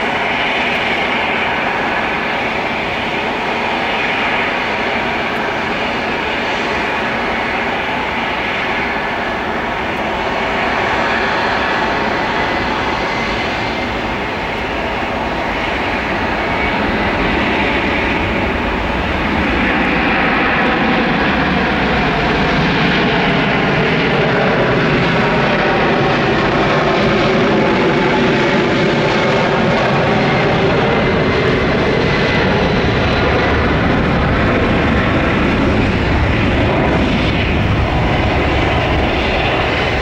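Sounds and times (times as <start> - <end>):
jet engines roaring on takeoff: 0.0 - 40.0.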